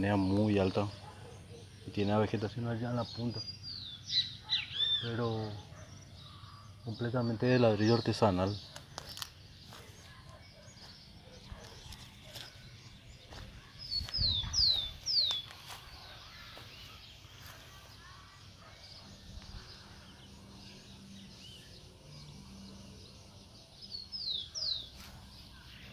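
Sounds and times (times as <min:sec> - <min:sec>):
outdoor background noise: 0:00.0 - 0:25.9.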